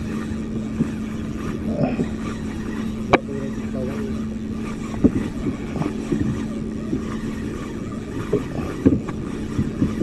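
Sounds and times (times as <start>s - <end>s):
boat engine humming: 0.0s - 10.0s
fishing reel clicking: 0.0s - 10.0s.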